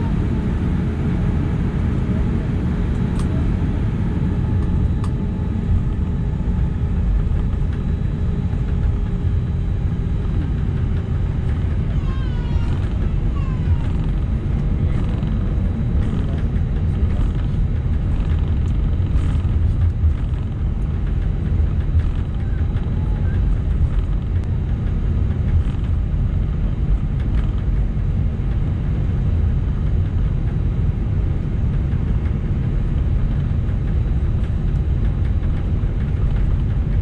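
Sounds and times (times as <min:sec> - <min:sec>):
aircraft cabin engine rumble: 0:00.0 - 0:37.0.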